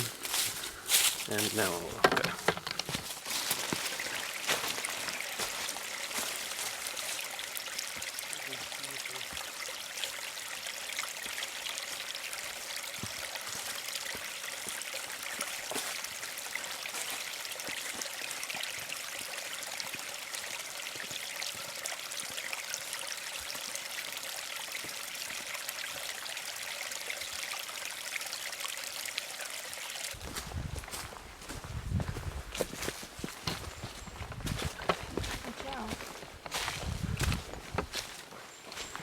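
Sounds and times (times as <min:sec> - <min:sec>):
small stream trickling: 0:00.0 - 0:39.0.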